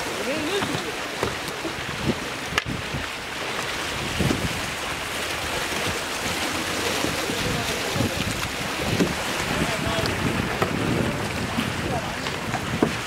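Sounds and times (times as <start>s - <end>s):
kayak paddles splashing: 0.0s - 13.0s
wind buffeting microphone: 0.0s - 13.0s.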